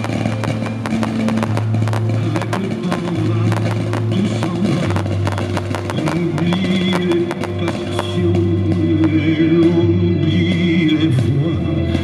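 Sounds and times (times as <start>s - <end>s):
fireworks crackling and popping: 0.0s - 12.0s
music with long held notes: 0.0s - 12.0s.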